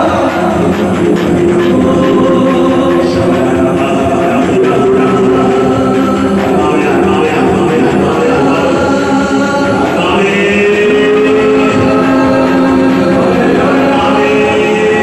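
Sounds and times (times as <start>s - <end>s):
choir singing slow devotional song: 0.0s - 15.0s.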